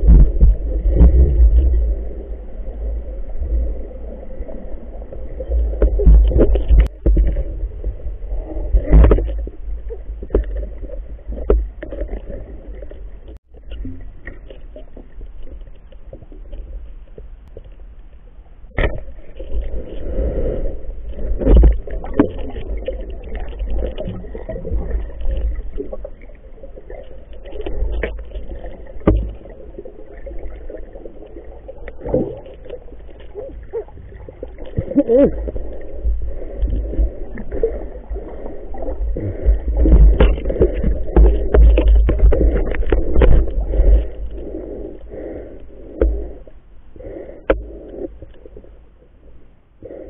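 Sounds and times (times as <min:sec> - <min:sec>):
water gurgling: 0:00.0 - 0:16.9, 0:18.7 - 0:49.2
low underwater rumble: 0:00.0 - 0:50.0.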